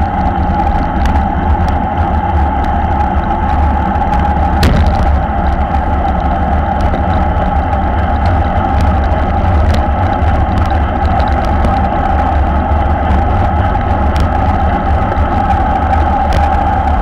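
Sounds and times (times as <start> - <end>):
road and tyre rumble: 0.0 - 17.0
wind buffeting microphone: 0.0 - 17.0.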